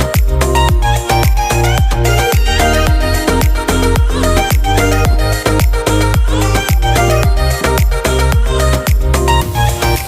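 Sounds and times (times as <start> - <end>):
dance music with pounding bass: 0.0 - 10.0.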